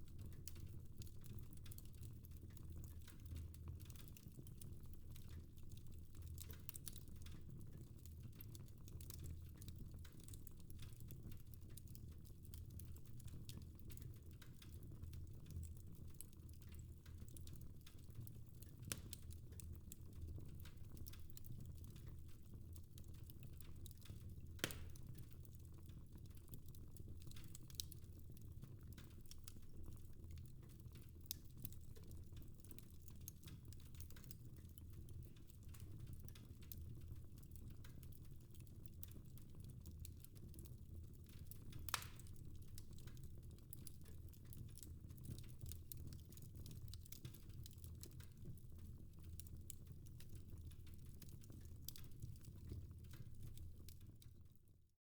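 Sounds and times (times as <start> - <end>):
wood fire crackling: 0.0 - 54.6.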